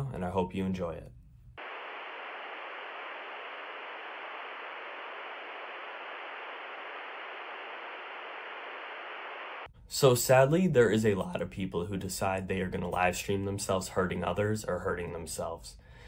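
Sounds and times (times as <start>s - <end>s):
muffled static hiss: 0.0s - 15.8s.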